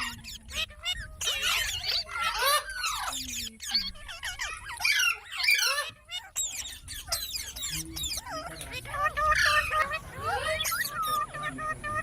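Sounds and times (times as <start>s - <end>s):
parrots chattering and squawking: 0.0s - 12.0s.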